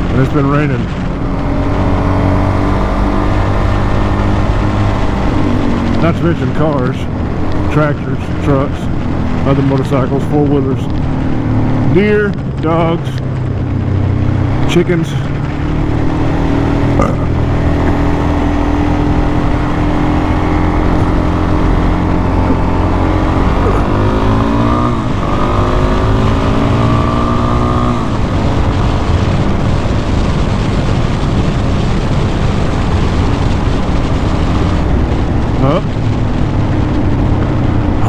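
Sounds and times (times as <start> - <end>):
dirt bike engine: 0.0 - 38.0.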